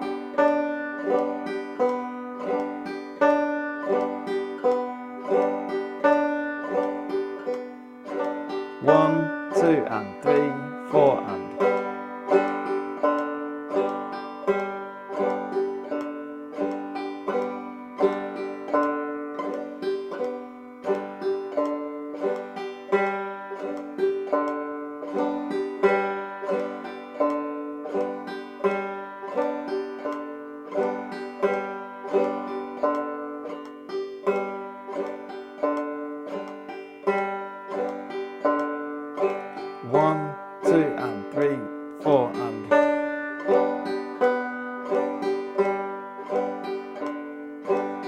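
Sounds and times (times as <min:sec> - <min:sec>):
banjo strumming: 0:00.0 - 0:48.0.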